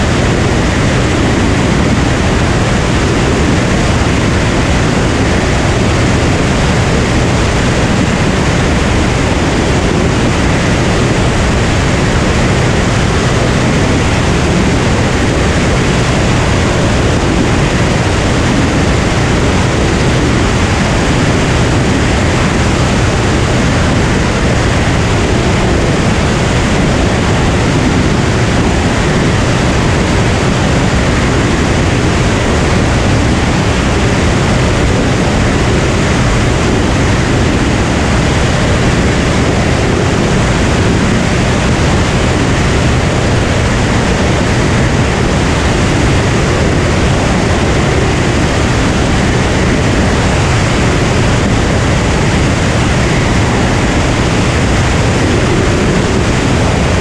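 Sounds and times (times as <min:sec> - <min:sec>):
airflow rushing: 0:00.0 - 0:57.0
propeller engine drone: 0:00.0 - 0:57.0.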